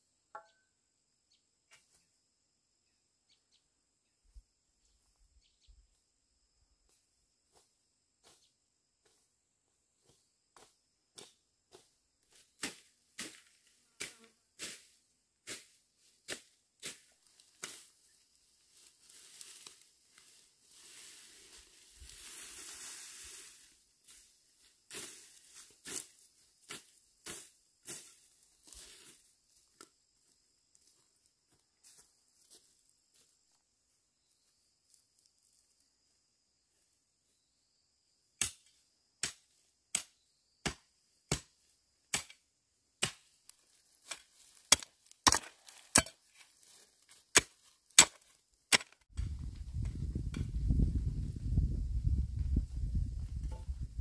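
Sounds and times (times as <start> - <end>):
faint insect drone: 0.0 - 44.5.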